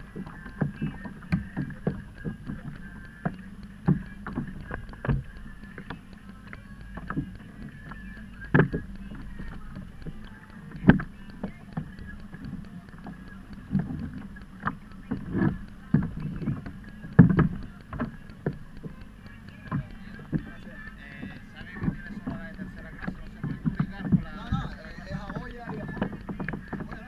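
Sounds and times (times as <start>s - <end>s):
water slapping against kayak hull: 0.0s - 27.0s.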